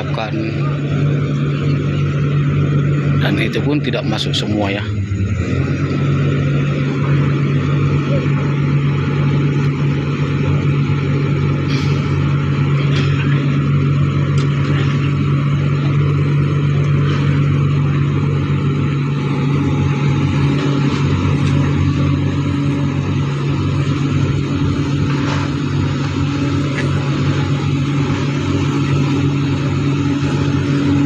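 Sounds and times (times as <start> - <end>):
large engine humming steadily: 0.0 - 31.0.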